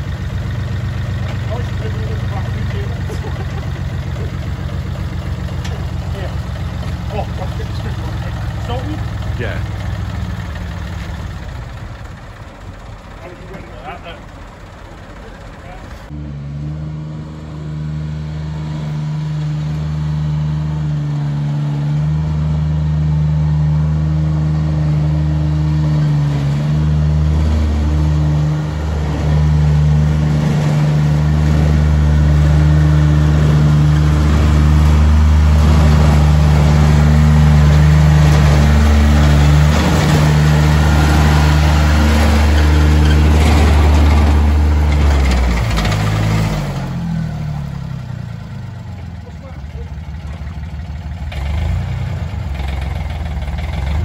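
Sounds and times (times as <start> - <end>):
mini dumper engine running: 0.0 - 54.0.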